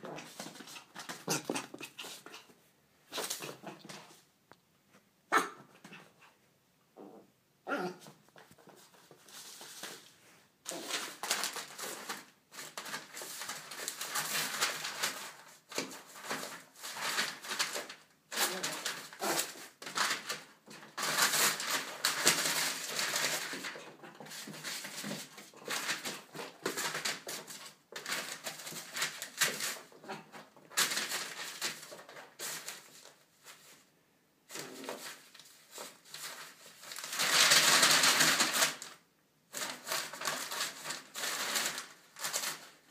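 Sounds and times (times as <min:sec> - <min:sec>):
newspaper rustling and tearing: 0:03.1 - 0:04.1, 0:08.6 - 0:33.8, 0:34.5 - 0:42.9.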